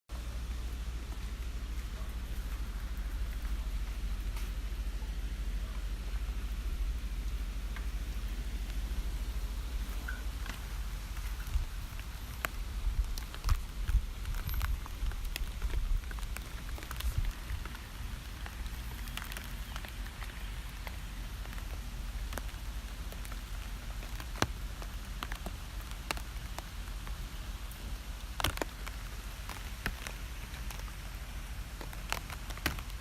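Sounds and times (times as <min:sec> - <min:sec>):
rain hissing: 0:00.1 - 0:33.0
raindrops ticking: 0:00.1 - 0:33.0.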